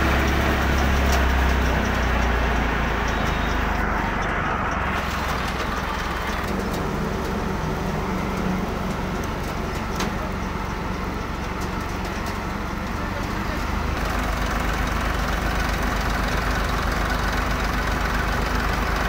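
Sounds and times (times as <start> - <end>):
thresher pulleys whirring: 0.0 - 19.0
tractor engine drone: 0.0 - 19.0.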